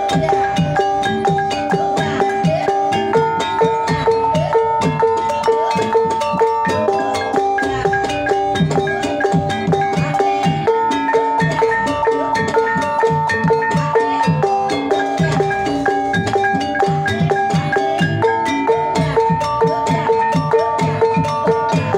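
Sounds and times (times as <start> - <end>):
drum strokes: 0.0 - 21.9
gongs and metallophones ringing: 0.0 - 21.9.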